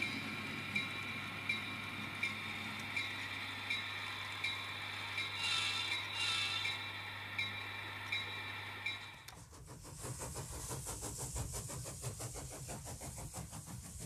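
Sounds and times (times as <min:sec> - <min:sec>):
diesel locomotive hum from speaker: 0:00.0 - 0:14.0.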